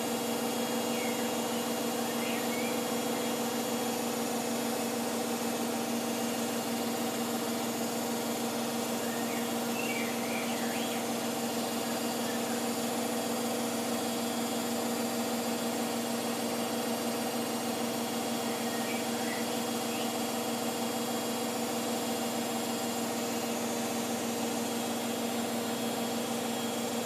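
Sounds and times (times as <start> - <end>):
motor whine: 0.0 - 27.0
washing machine spinning: 0.0 - 27.0.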